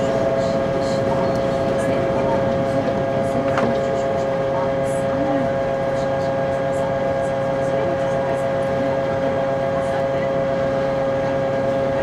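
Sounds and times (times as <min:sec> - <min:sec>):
ferry machinery drone: 0:00.0 - 0:12.0.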